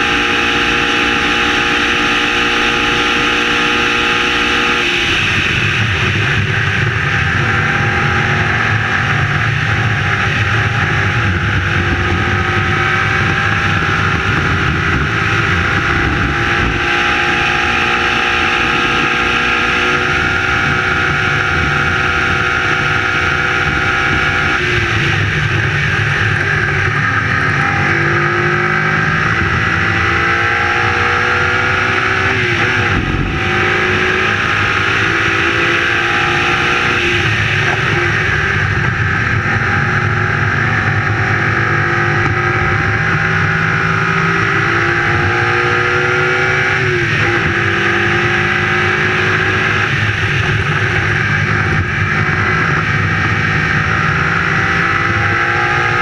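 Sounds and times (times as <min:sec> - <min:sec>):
racing car engine through gears: 0:00.0 - 0:56.0.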